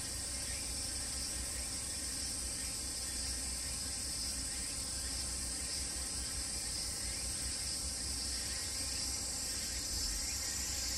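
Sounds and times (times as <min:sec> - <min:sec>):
high-pitched insect chorus: 0:00.0 - 0:10.9.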